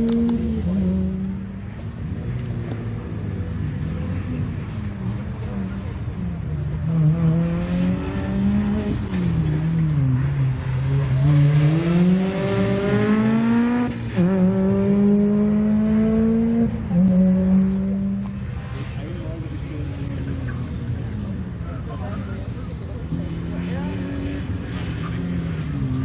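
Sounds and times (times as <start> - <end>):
racing car engine revving: 0.0 - 26.0.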